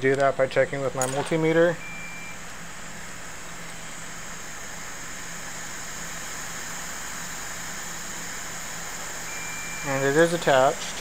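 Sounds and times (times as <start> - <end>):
equipment fan hiss with hum: 0.0 - 11.0.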